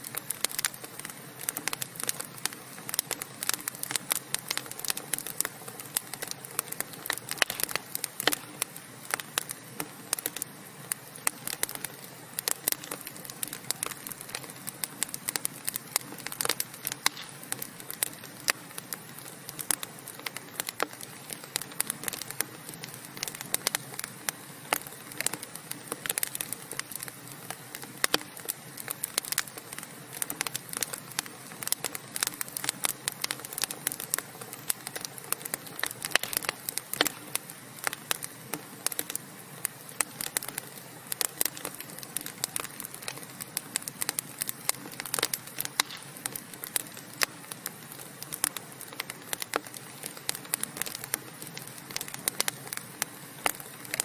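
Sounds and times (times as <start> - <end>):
steady fire hiss: 0.0 - 54.0
wood fire crackling: 0.0 - 54.0.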